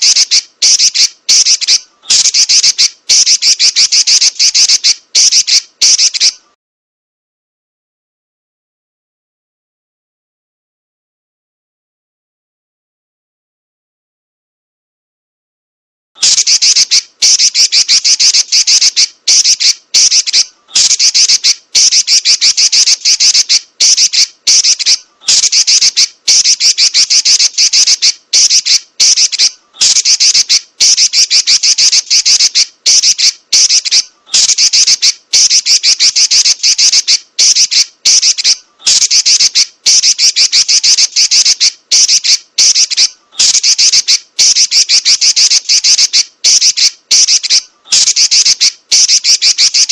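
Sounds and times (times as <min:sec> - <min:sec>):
bird chattering call: 0:00.0 - 0:06.4, 0:16.2 - 0:49.9.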